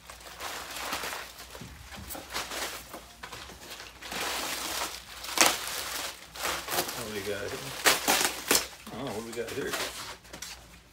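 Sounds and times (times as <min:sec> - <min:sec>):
bubble wrap rustling and crinkling: 0:00.0 - 0:10.9.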